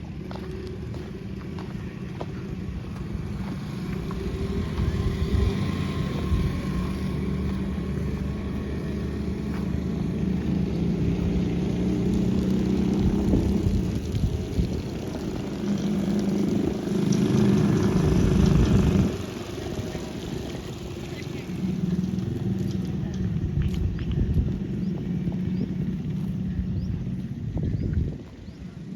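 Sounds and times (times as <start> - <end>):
engine humming: 0.0 - 28.9.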